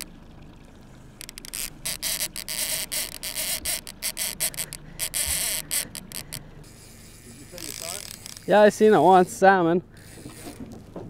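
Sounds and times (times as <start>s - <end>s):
fishing reel ratcheting: 1.2s - 9.4s, 10.0s - 10.7s.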